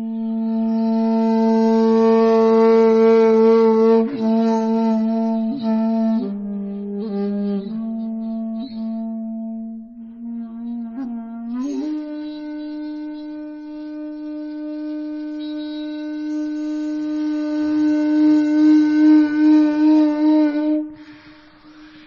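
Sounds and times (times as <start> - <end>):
breathy flute-like wind instrument: 0.0 - 22.0.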